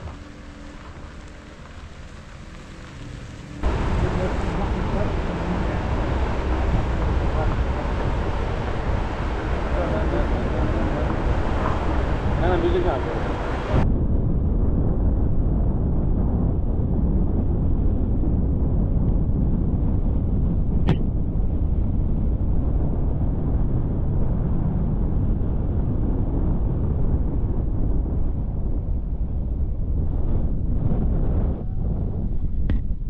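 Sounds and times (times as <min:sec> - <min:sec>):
vehicle rumbling through tunnel: 0:00.0 - 0:33.0.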